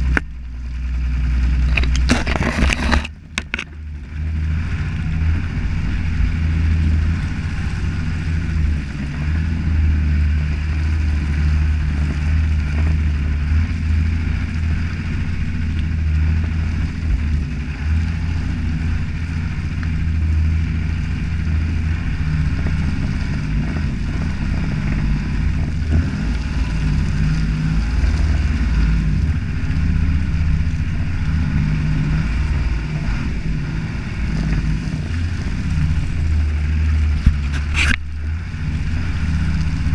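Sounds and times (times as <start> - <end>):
diesel engine droning: 0.0 - 39.9
wind noise: 0.0 - 39.9.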